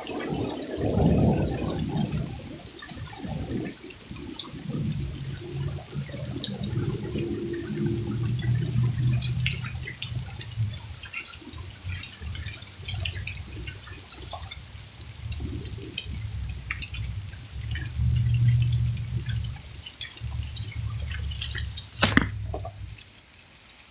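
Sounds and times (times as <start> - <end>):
storm water rushing: 0.0 - 23.1
drops ticking: 3.1 - 23.2.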